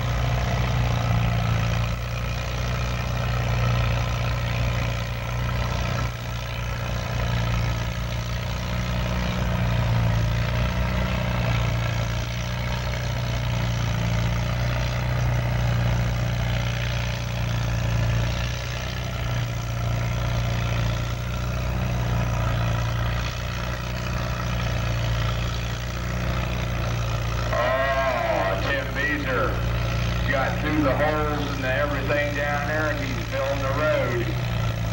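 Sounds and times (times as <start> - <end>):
tractor engine droning: 0.0 - 34.9.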